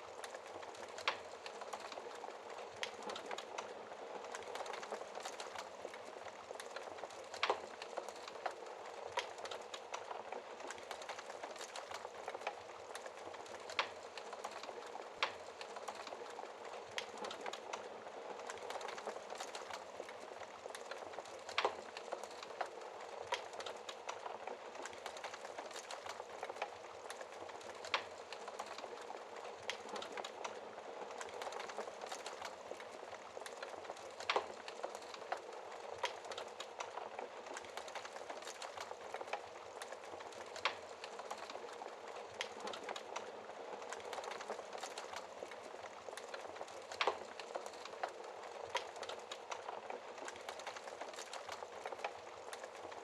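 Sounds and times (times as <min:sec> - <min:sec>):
logs crackling in fireplace: 0:00.0 - 0:53.0
steady fire hiss: 0:00.1 - 0:53.0.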